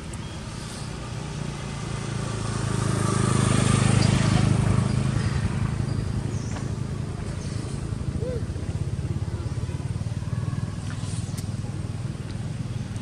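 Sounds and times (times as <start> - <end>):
vehicle engine passing by: 0.4 - 13.0.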